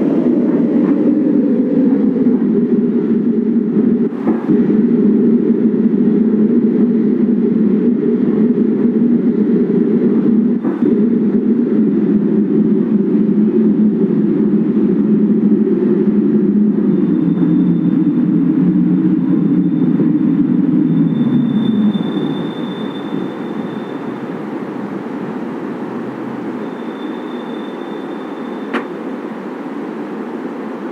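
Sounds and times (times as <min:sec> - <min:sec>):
faint high whine: 0:00.0 - 0:30.9
train wheels rumbling on rail: 0:00.0 - 0:30.9.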